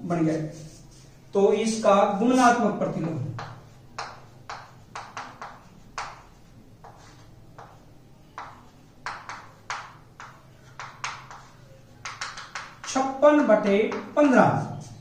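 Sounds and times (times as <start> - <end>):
chalk writing on chalkboard: 0.3 - 15.0.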